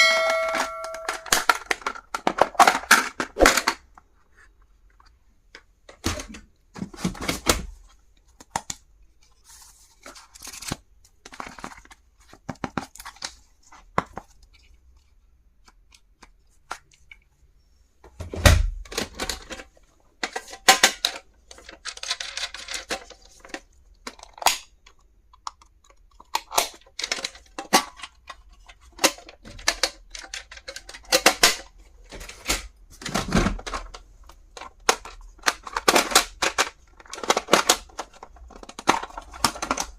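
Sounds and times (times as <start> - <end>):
stationery items clicking and knocking: 0.0 - 9.4, 10.0 - 17.3, 18.0 - 39.9.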